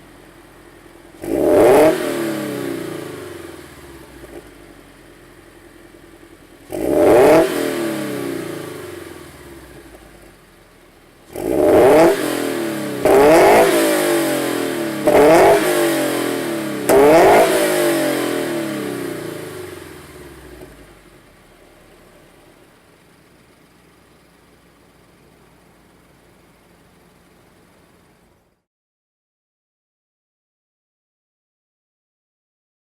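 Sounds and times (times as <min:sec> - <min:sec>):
car engine idling: 0:00.0 - 0:28.6
car engine revving: 0:00.0 - 0:28.6.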